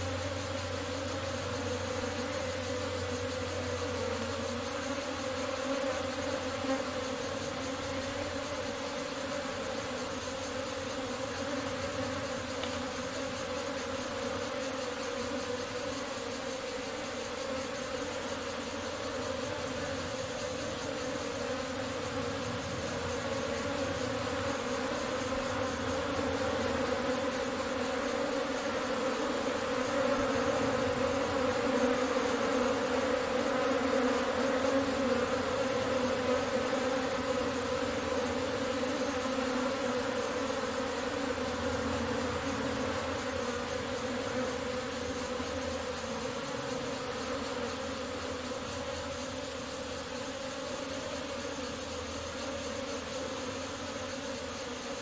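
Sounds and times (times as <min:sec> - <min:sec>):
honeybee swarm humming: 0:00.0 - 0:55.0.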